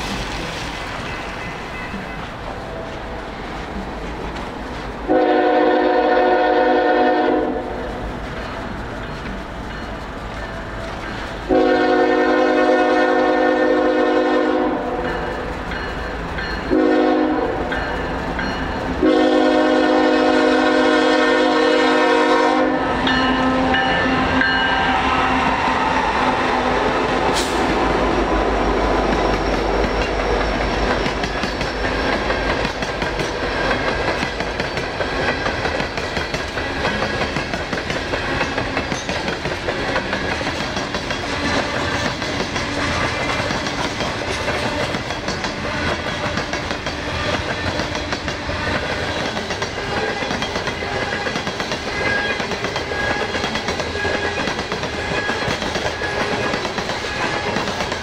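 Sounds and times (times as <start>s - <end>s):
clickety-clack over rail joints: 0.0s - 7.3s, 7.9s - 19.7s, 25.5s - 58.0s
train cars rolling on rails: 0.0s - 58.0s.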